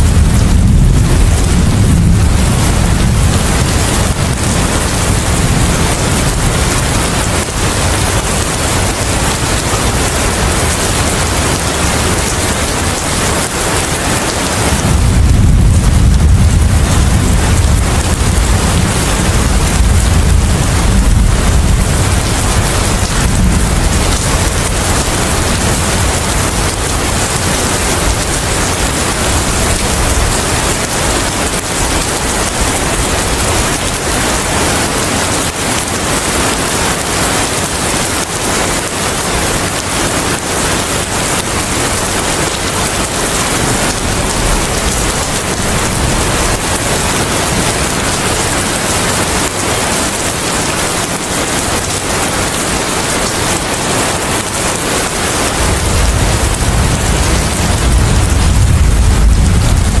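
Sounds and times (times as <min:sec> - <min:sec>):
low rumble of thunder: 0:00.0 - 0:39.9, 0:40.8 - 0:49.3, 0:54.4 - 1:00.0
heavy rain falling: 0:00.0 - 1:00.0.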